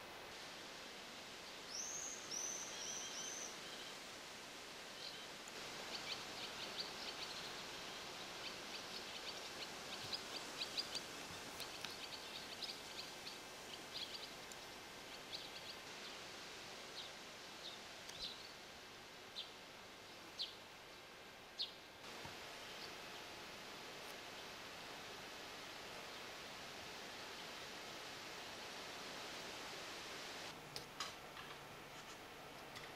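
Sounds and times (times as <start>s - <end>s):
steady outdoor hiss: 0.0s - 32.9s.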